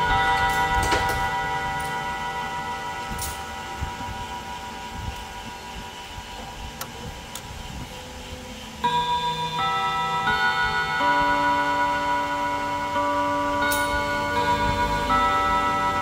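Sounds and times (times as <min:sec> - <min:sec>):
clock chime rods ringing: 0:00.0 - 0:07.3, 0:07.9 - 0:16.0.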